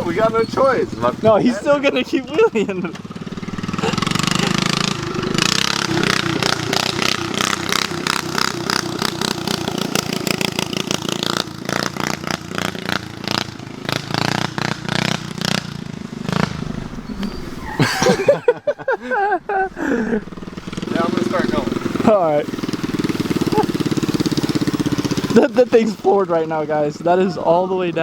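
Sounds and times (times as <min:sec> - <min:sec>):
small engine running hard: 0:00.0 - 0:18.4, 0:19.8 - 0:28.0.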